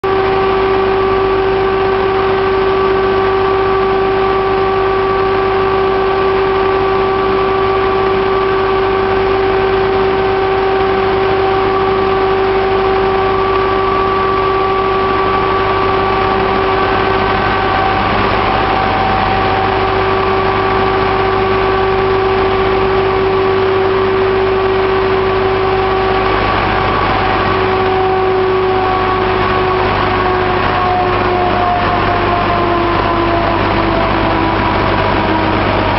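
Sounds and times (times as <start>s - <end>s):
diesel engine rumble: 0.0s - 35.9s
loud steady whine: 0.0s - 35.9s.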